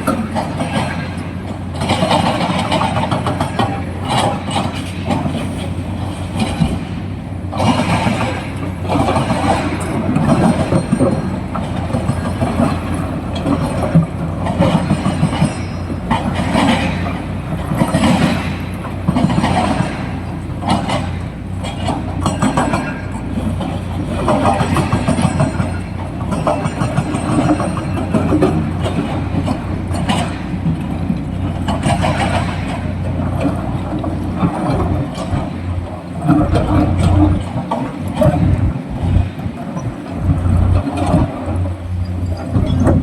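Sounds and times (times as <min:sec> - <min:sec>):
clattering and rattling of digging: 0:00.0 - 0:43.0
excavator diesel engine running: 0:00.0 - 0:43.0.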